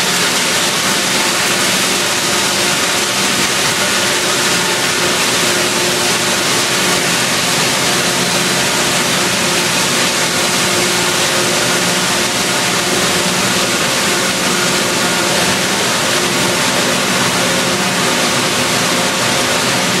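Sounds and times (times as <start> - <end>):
extrusion machinery running: 0.0 - 20.0.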